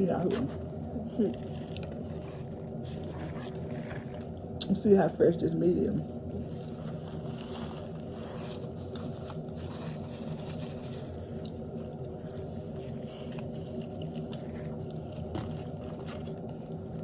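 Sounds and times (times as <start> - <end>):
steady low hum: 0.0 - 17.0
person chewing food: 0.6 - 4.7, 6.1 - 17.0.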